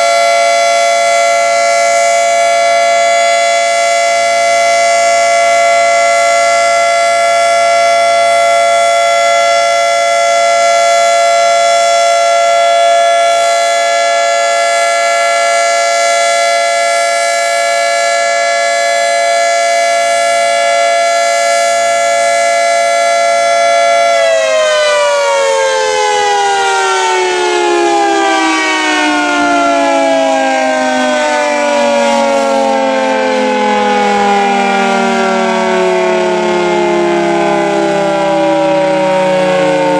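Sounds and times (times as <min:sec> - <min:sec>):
outdoor warning siren chord: 0:00.0 - 0:39.9.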